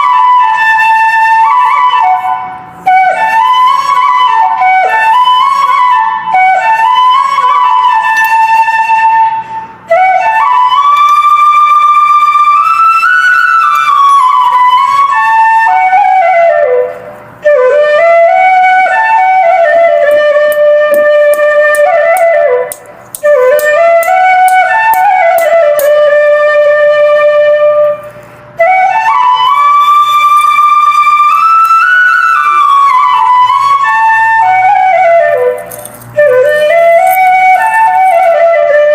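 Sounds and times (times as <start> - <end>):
flute playing slow melody: 0.0 - 38.9.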